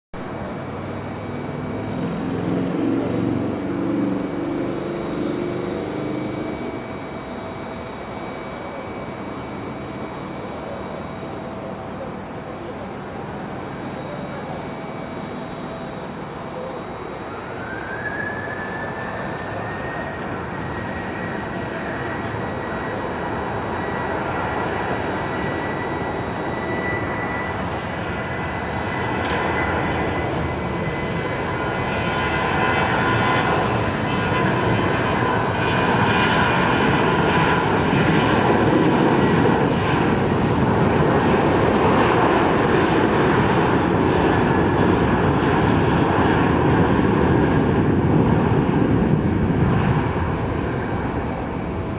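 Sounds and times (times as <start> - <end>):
jet engine whine: 0.1 - 51.9
jet roar: 0.2 - 51.9.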